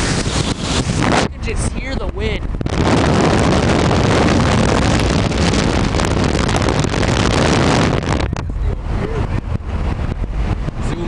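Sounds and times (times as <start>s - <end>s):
low rumble: 0.0s - 11.0s
storm wind buffeting microphone: 0.0s - 11.0s.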